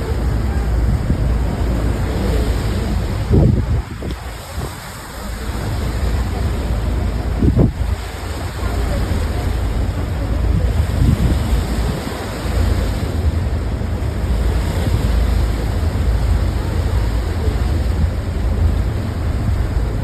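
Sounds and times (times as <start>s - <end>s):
turbulent sea water rushing: 0.0s - 20.0s
wind buffeting the microphone: 0.0s - 20.0s.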